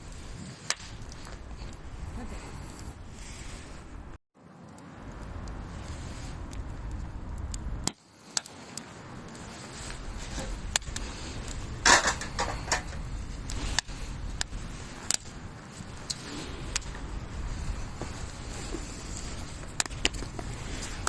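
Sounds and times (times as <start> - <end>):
wind rumble on microphone: 0.0 - 4.2, 4.8 - 21.0
campfire crackling and popping: 0.0 - 21.0.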